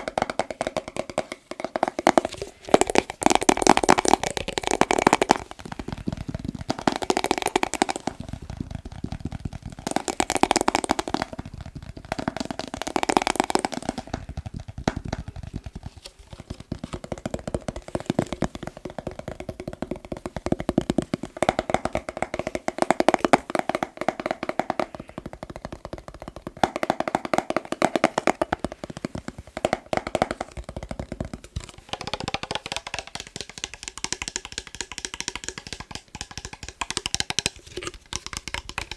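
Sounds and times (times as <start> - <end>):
fast tapping on glass jar: 0.0 - 38.9.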